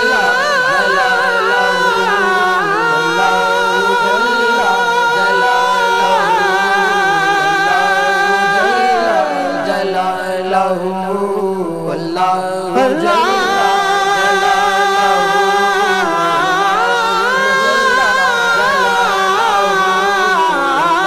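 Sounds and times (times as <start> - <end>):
men singing devotional hymn: 0.0 - 21.0.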